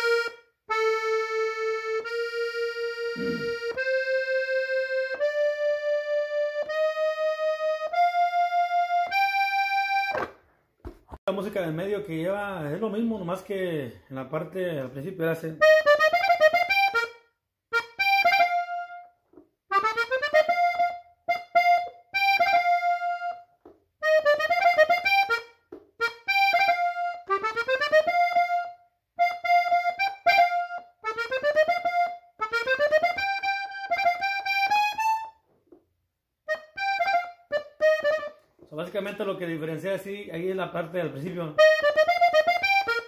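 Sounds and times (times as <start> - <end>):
button accordion melody: 0.0 - 11.8, 14.4 - 43.0.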